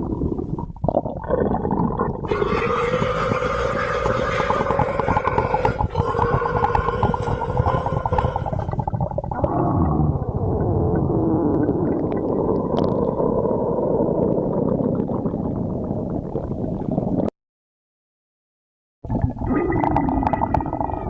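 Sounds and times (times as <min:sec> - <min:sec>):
stomach growling: 0:00.0 - 0:17.3, 0:19.1 - 0:21.0.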